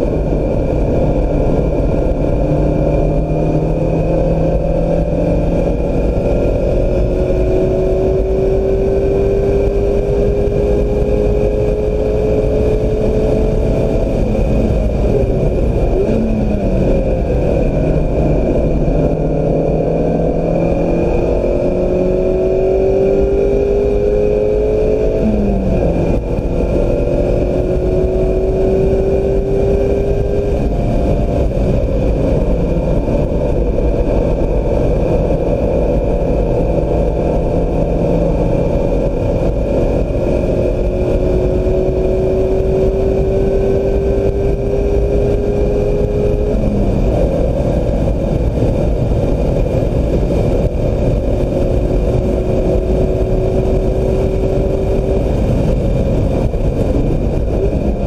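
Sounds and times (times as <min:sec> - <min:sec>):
car engine accelerating: 0:00.0 - 0:58.0
gear change: 0:00.0 - 0:58.0.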